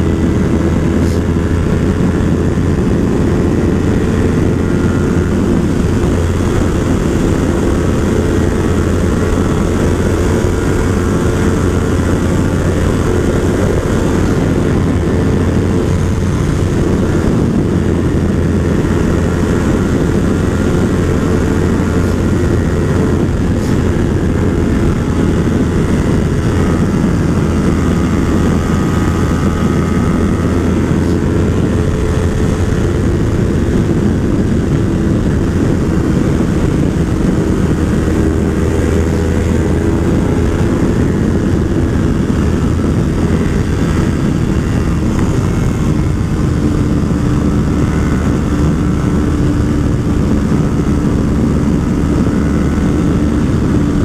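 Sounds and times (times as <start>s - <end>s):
motorcycle engine at speed: 0.0s - 54.0s
wind rush on microphone: 0.0s - 54.0s.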